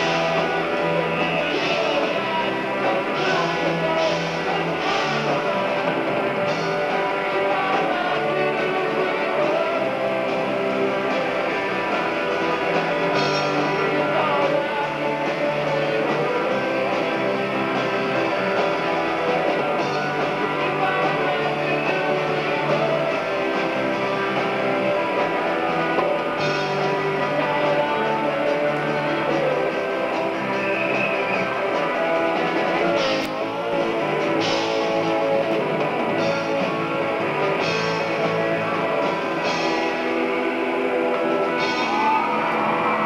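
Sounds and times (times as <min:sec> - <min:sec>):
electric guitar: 0:00.0 - 0:43.0
live rock band playing: 0:00.0 - 0:43.0.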